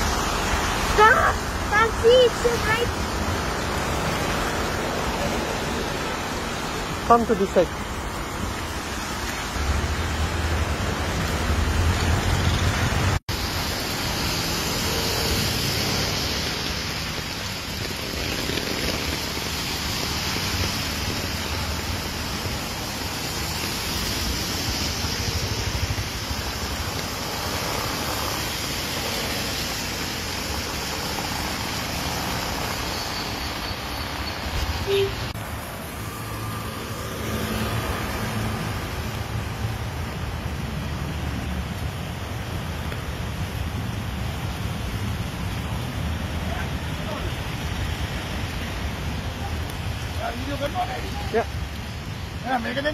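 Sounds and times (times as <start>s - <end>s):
rain falling: 0.0s - 52.9s
tyres hissing on wet road: 0.0s - 52.9s.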